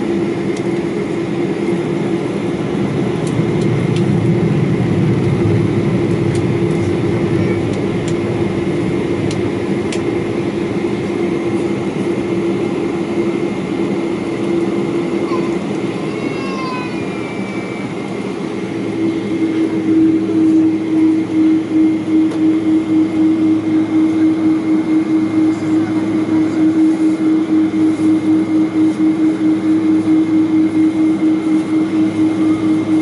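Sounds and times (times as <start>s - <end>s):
jet engine drone in cabin: 0.0s - 33.0s.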